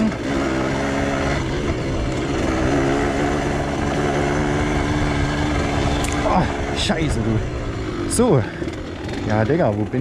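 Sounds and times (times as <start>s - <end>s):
two-stroke motorcycle engine running: 0.0s - 10.0s.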